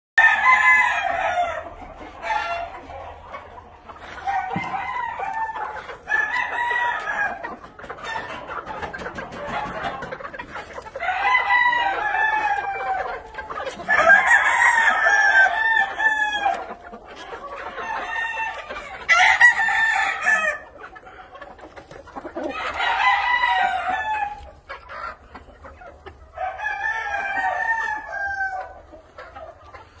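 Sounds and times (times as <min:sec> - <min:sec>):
roosters crowing: 0:00.2 - 0:02.9, 0:04.0 - 0:20.8, 0:22.2 - 0:24.6, 0:26.4 - 0:28.9
hens clucking: 0:00.2 - 0:30.0.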